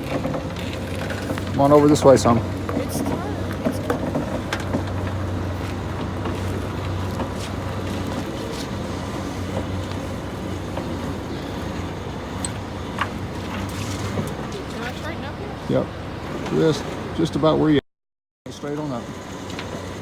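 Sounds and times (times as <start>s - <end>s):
truck engine droning: 0.0s - 17.8s, 18.5s - 20.0s.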